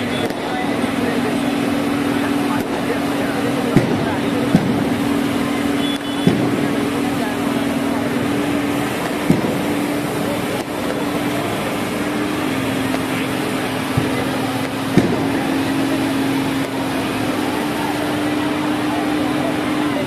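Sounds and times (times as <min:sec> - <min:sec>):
fire engine pump humming: 0:00.0 - 0:20.0.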